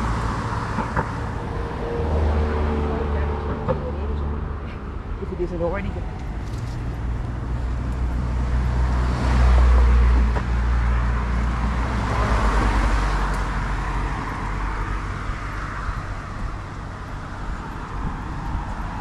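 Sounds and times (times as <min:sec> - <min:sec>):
tyre rush of passing car: 0:00.0 - 0:19.0
vehicle engine humming: 0:00.0 - 0:19.0.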